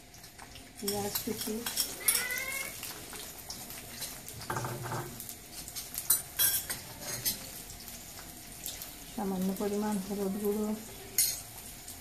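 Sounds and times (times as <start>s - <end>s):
onion frying in oil: 0.0s - 12.0s.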